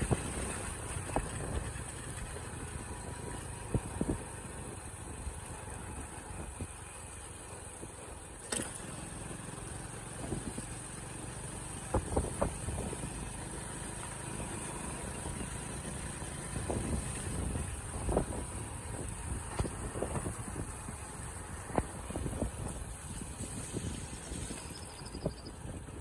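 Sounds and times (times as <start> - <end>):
motorcycle engine rumble: 0.0 - 26.0.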